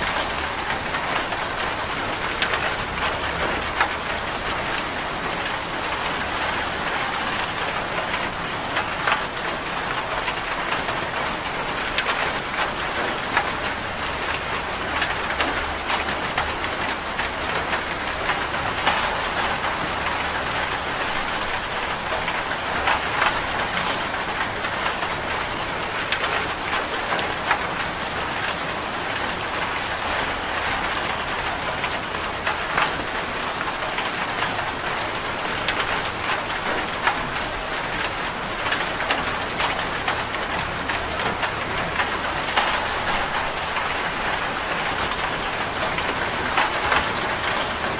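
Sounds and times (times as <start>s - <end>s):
raindrops ticking on a surface: 0.0s - 47.9s
steady rain falling: 0.0s - 47.9s.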